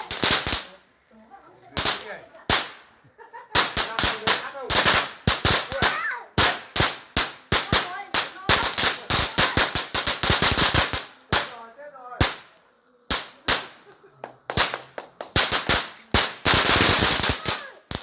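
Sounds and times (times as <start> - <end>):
fireworks bangs and cracks: 0.0 - 0.8, 1.7 - 18.0.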